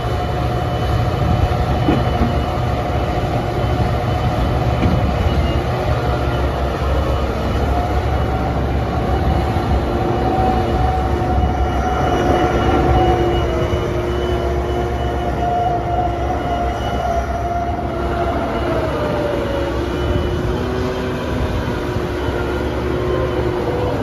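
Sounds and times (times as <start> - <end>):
diesel engine running: 0.0 - 24.0
whining tone: 0.0 - 24.0.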